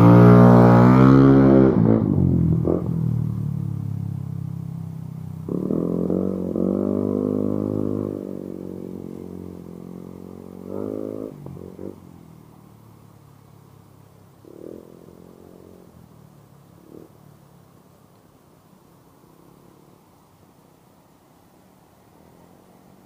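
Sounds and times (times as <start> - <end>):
vehicle engine moving away: 0.0 - 20.6, 21.6 - 23.0.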